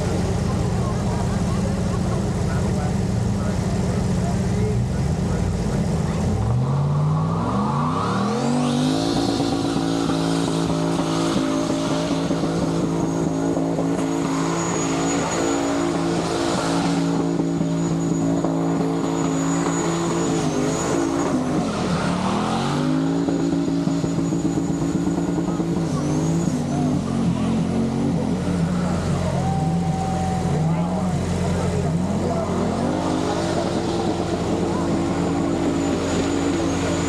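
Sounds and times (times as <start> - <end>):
engine revving: 0.0 - 37.0.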